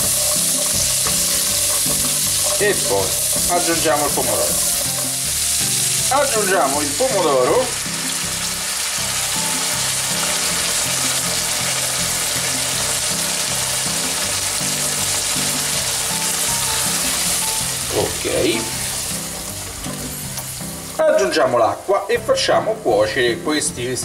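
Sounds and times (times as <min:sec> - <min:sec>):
food sizzling in a pot: 0:00.0 - 0:23.6
soft background music: 0:00.0 - 0:24.0.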